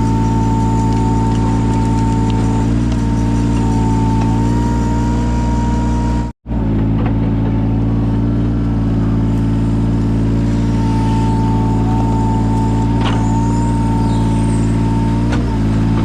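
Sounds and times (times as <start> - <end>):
excavator diesel engine running: 0.0 - 16.0
steady whine: 0.0 - 16.0.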